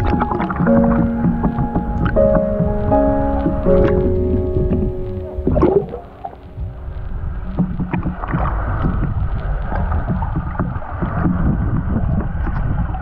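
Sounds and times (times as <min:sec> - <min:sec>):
bubbling underwater: 0:00.0 - 0:13.0
water splashing and gurgling: 0:00.0 - 0:13.0.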